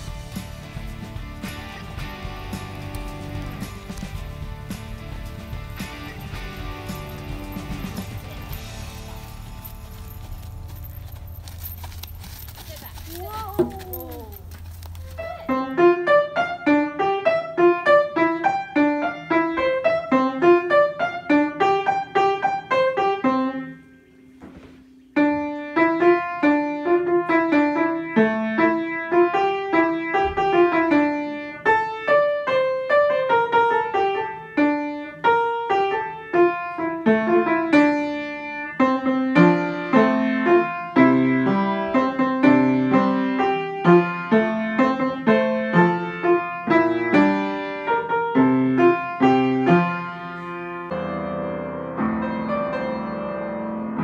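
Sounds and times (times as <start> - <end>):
upright piano playing: 0.0 - 11.8, 13.1 - 24.3, 25.1 - 54.0.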